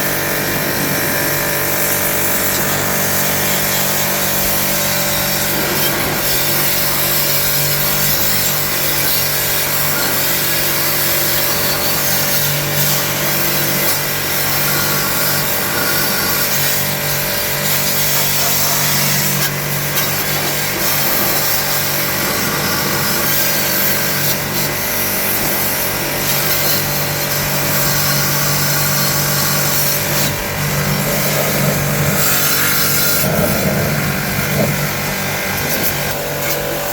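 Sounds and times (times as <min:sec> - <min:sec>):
motor humming: 0:00.0 - 0:36.9.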